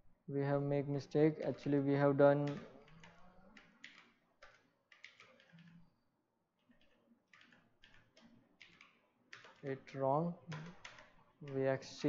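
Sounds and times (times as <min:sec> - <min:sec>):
faint keyboard typing: 0:01.2 - 0:06.0, 0:06.6 - 0:12.0.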